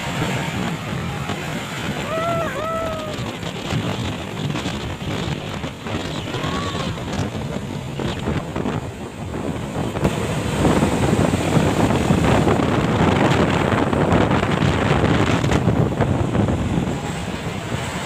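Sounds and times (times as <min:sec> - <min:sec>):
moving vehicle rumble: 0:00.0 - 0:18.0
wind buffeting microphone: 0:00.0 - 0:18.0.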